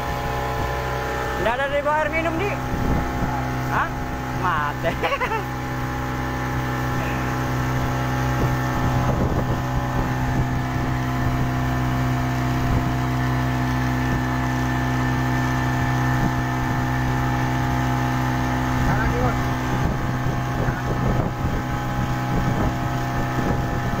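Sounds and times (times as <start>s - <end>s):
outboard motor running: 0.0s - 24.0s
rushing wind and water: 0.0s - 24.0s.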